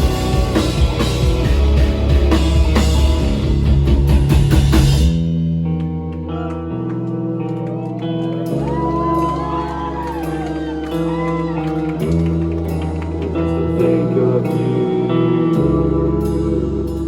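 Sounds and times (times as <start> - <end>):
bass notes: 0.0 - 17.0
electric guitar chords: 0.0 - 17.0.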